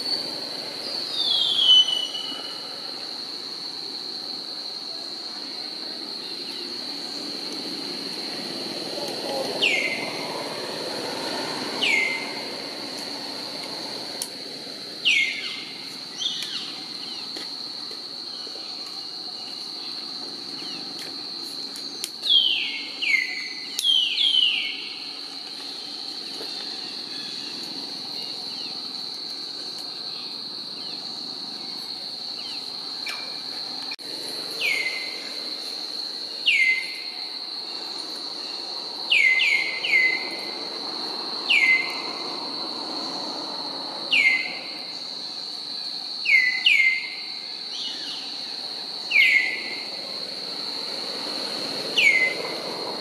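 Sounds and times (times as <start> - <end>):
high-pitched insect drone: 0.0 - 53.0.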